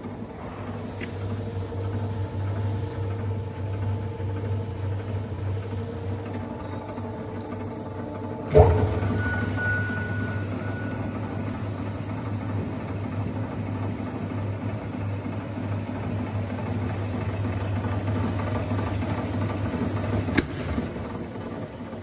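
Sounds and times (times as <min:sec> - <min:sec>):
mixer motor hum and whirring: 0:00.0 - 0:22.0.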